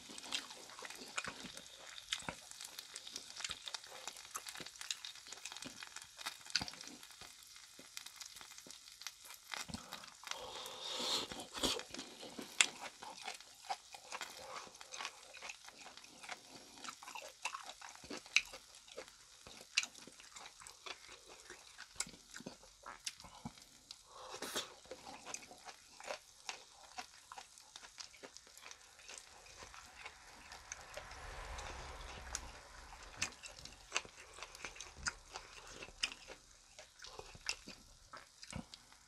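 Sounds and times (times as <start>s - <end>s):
close-miked chewing: 0.0s - 39.0s.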